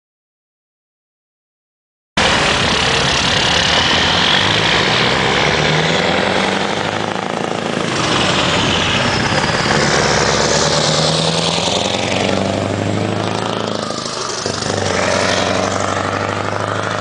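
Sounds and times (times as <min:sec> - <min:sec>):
truck diesel engine pulling away: 0:02.2 - 0:17.0.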